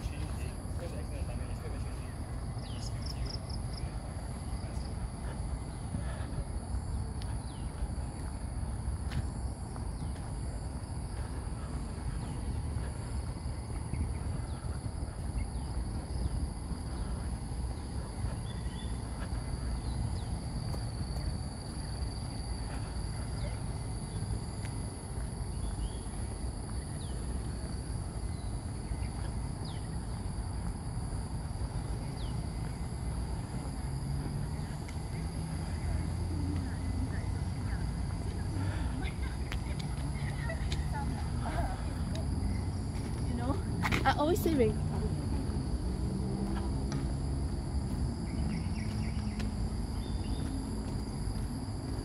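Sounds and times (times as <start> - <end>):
insects droning: 0.0 - 52.0.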